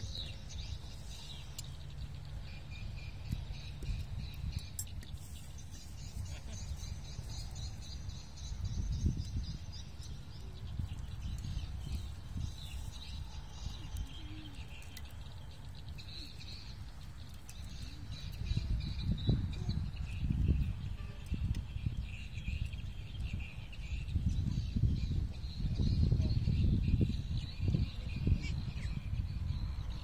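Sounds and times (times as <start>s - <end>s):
small birds chirping: 0.0s - 30.0s
wind on microphone: 2.2s - 15.2s, 17.6s - 30.0s.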